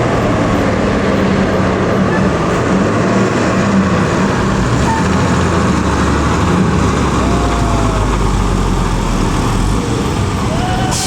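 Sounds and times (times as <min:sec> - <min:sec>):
heavy vehicle engine running: 0:00.0 - 0:11.0
road noise: 0:00.0 - 0:11.0.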